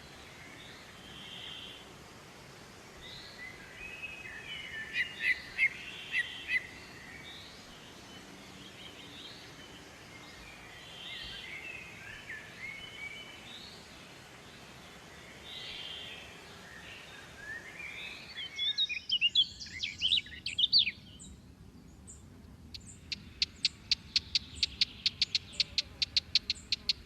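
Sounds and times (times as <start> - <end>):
faint steady hiss: 0.0 - 27.0
small birds chirping: 3.0 - 27.0.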